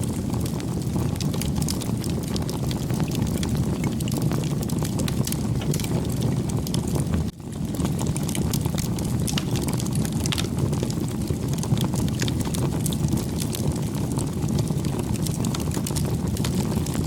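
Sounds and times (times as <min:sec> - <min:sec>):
campfire flames rushing: 0:00.0 - 0:17.0
wood crackling and popping: 0:00.0 - 0:17.0.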